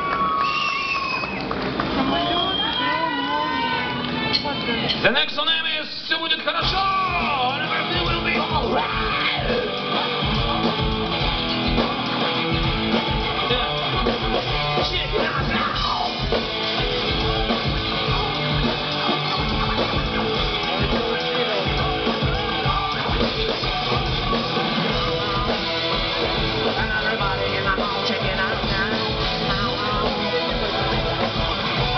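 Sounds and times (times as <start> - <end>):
drum kit playing: 5.0 - 31.9
electric guitar strumming: 6.2 - 31.9.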